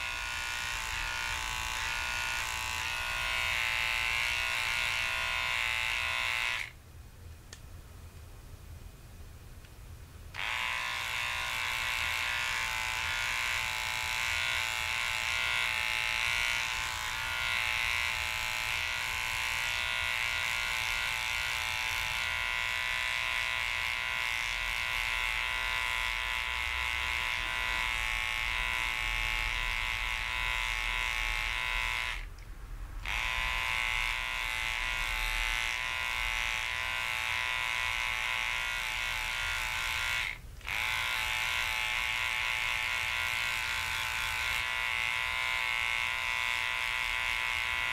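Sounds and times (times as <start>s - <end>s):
electric clipper humming: 0.0s - 6.8s, 10.3s - 32.4s, 33.0s - 47.9s.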